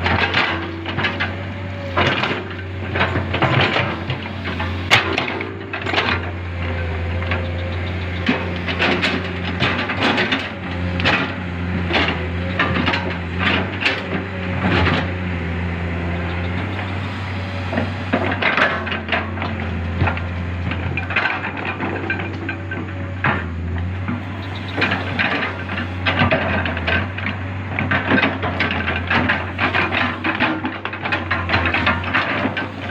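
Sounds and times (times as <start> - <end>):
diesel engine humming: 0.0 - 32.9
excavator knocks and scrapes: 0.0 - 32.9.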